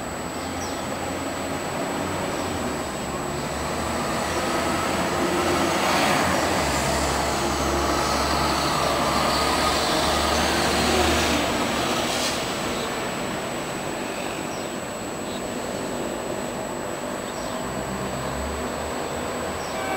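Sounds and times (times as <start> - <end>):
bus engine droning: 0.0 - 19.9
street traffic: 0.0 - 19.9.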